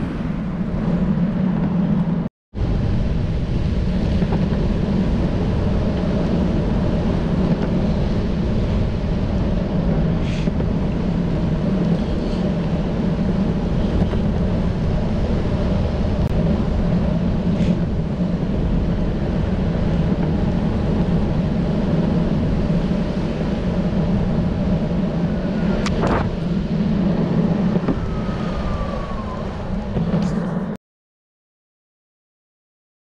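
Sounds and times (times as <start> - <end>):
wheels rumbling on asphalt: 0.0 - 30.8.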